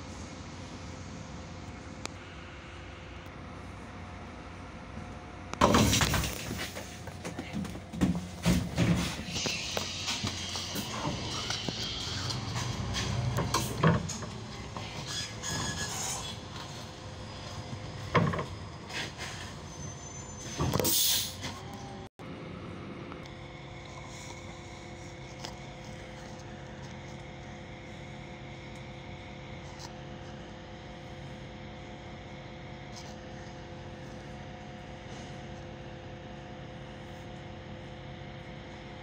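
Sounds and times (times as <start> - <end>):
bus cabin engine hum: 0.0 - 39.0.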